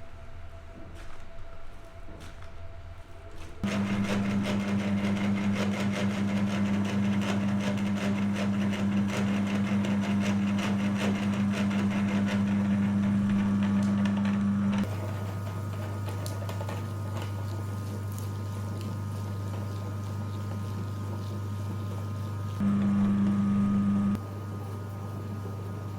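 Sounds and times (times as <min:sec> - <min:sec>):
electric meat grinder running: 0:03.6 - 0:25.9.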